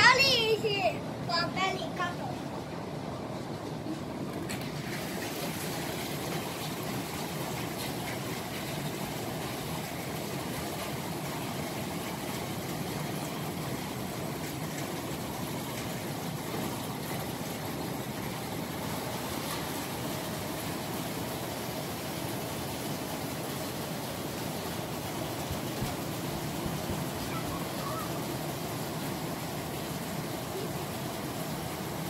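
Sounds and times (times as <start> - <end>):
heavy rain hiss: 0.0 - 32.0
water pouring off a roof: 0.0 - 32.0.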